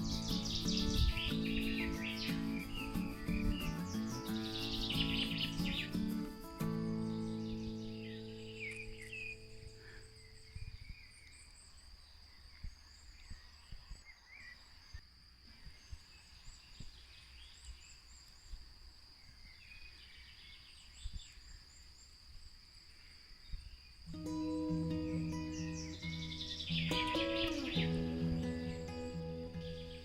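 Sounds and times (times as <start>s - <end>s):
bird chirps: 0.0s - 18.6s, 22.9s - 30.0s
insect trill: 0.0s - 30.0s.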